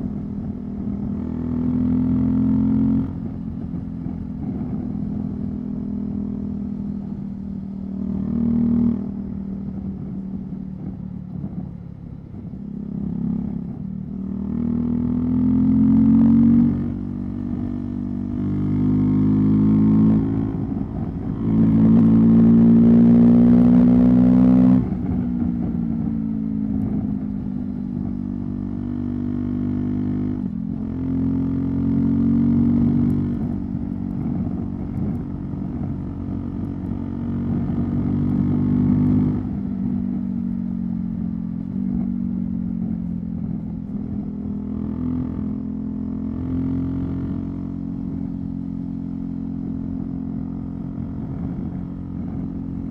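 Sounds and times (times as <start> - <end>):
motorcycle engine revving: 0.0 - 11.6, 12.3 - 52.9.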